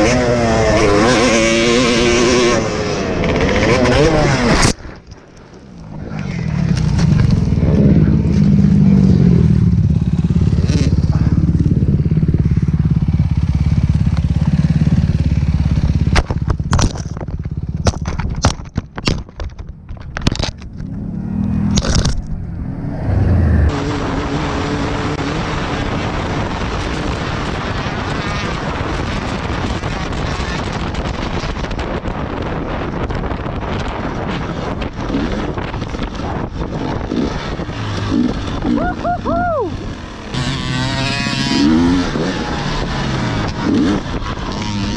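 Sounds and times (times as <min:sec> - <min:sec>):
dirt bike engine running: 0:00.0 - 0:44.9
wind noise on microphone: 0:00.0 - 0:44.9.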